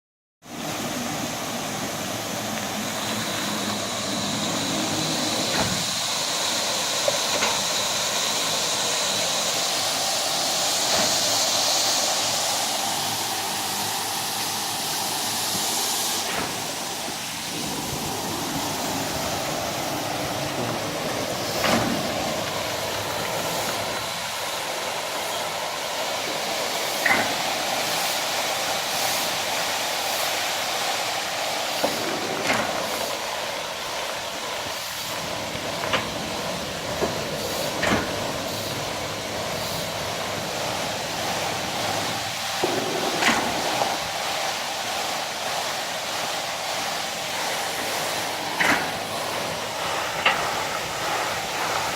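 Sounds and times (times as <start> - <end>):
carpet washing machine running: 0.4 - 51.9.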